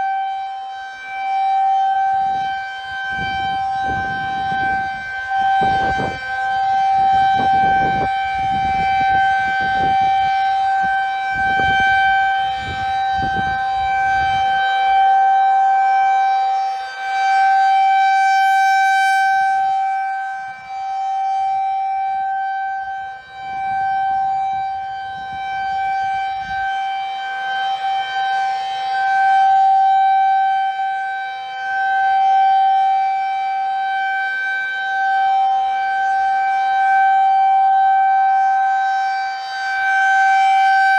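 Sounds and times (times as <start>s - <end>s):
rotating siren steady tone: 0.0s - 40.9s.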